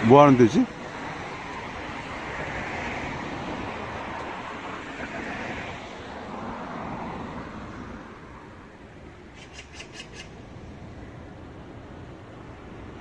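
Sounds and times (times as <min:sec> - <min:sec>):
low traffic hum: 0:00.0 - 0:13.0
vehicle passing: 0:00.0 - 0:13.0.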